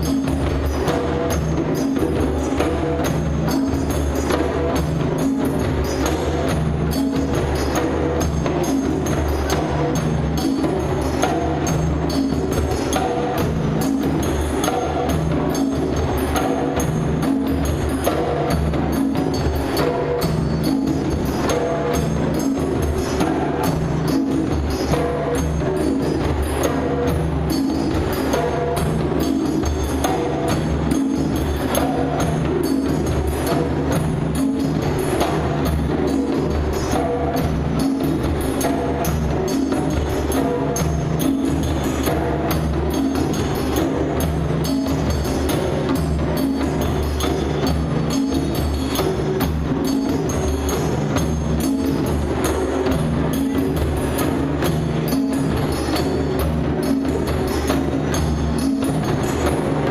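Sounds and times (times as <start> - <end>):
music with percussive beat and bass: 0.0 - 59.9.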